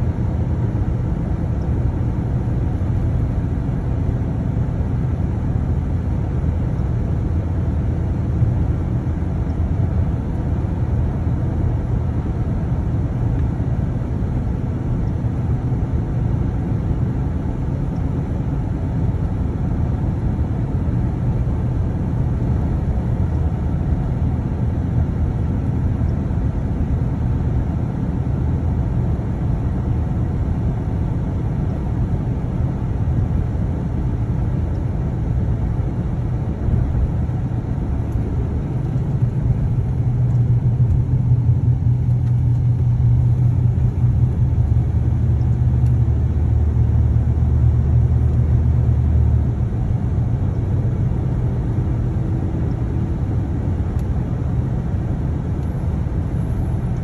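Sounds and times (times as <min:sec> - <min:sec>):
road and engine rumble in vehicle: 0:00.0 - 0:57.0.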